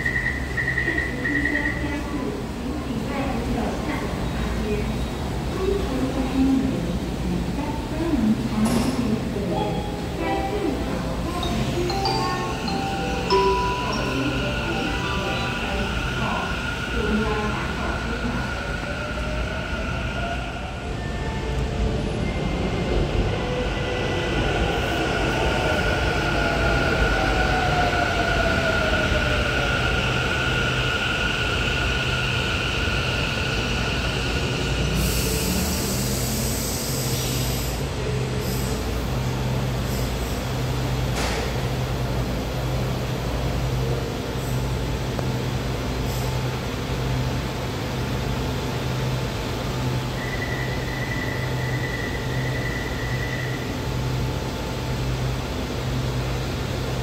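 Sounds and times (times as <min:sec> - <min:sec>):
train standing low hum: 0:00.0 - 0:57.0.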